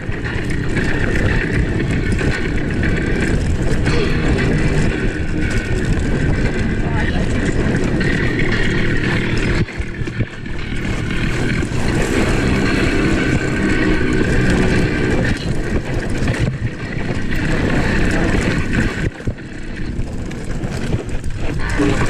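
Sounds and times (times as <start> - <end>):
bike rattling and knocking: 0.0 - 22.0
wind rushing over microphone: 0.0 - 22.0.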